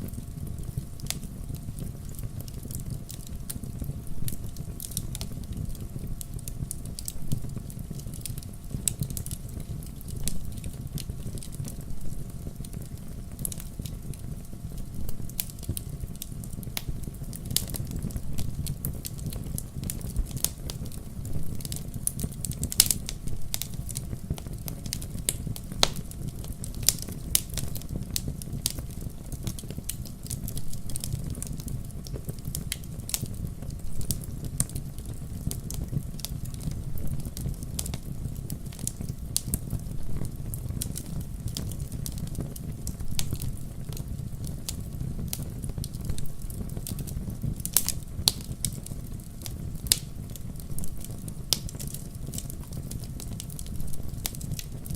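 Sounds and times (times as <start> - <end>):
low rumble of burning fire: 0.0 - 54.9
wood fire crackling and popping: 0.0 - 54.9.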